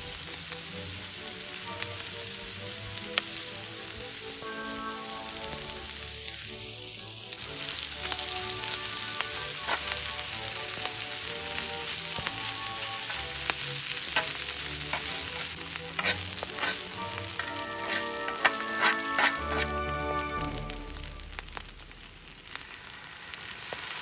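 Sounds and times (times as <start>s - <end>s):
soft background music: 0.0s - 22.5s
food sizzling in a pan: 0.0s - 24.0s.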